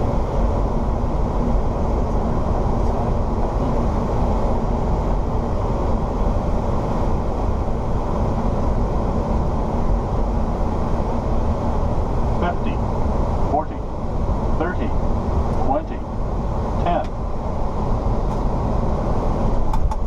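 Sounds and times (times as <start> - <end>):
air rushing over windscreen: 0.0 - 20.0
faint steady hum: 0.0 - 20.0
jet engines low rumble: 0.0 - 20.0.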